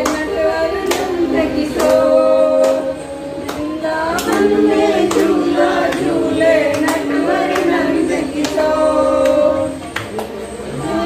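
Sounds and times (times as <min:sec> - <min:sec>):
group singing devotional song: 0:00.0 - 0:11.0.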